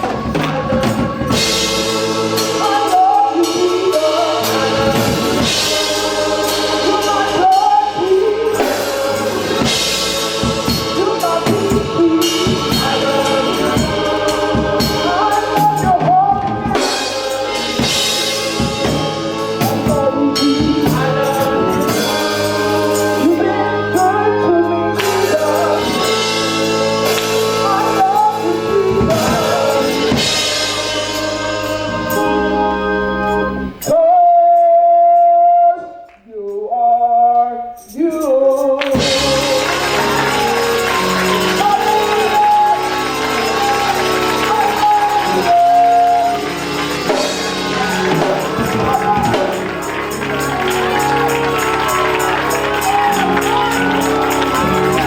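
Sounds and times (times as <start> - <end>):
bass notes: 0.0 - 34.0, 38.9 - 55.0
drums: 0.0 - 35.3, 37.6 - 55.0
voices singing: 0.0 - 55.0.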